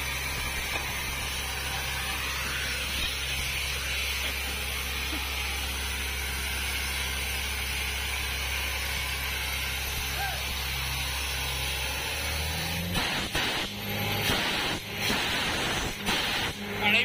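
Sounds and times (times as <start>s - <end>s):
drilling rig engine hum: 0.0s - 17.0s.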